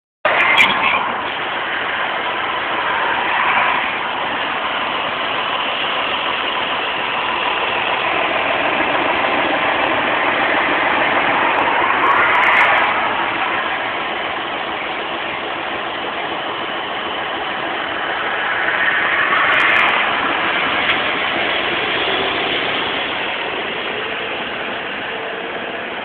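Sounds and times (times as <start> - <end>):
tractor engine running: 0.2 - 26.0.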